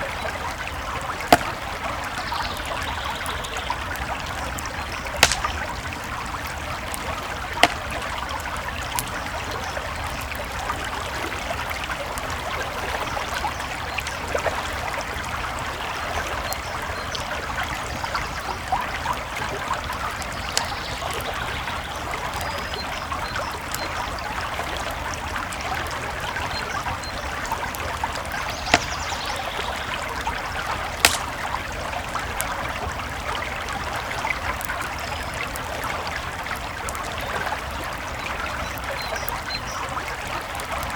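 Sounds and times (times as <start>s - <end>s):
campfire crackling and popping: 0.0s - 40.9s
creek babbling: 0.0s - 40.9s.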